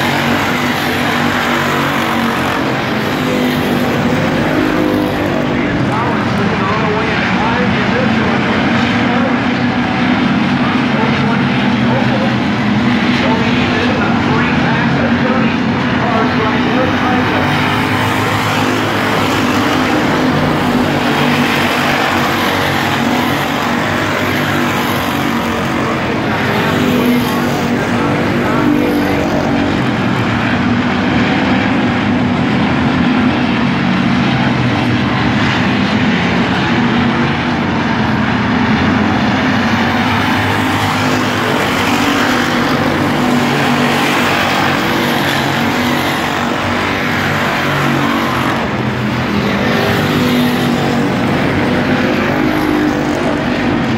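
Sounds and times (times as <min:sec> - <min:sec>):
race car engines: 0:00.0 - 0:53.9.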